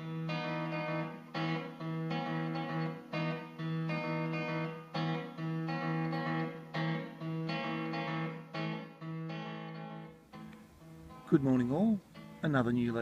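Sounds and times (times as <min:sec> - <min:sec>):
strummed guitar chords: 0:00.0 - 0:13.0.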